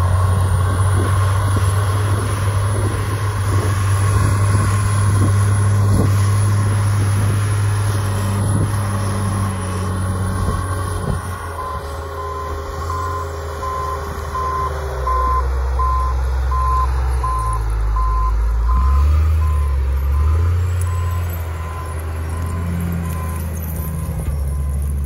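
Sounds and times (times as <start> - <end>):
diesel engine rumble: 0.0 - 25.0.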